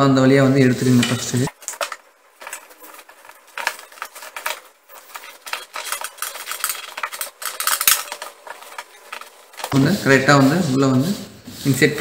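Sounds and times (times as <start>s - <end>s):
cloth sleeve rustling and scraping: 0.6s - 12.0s.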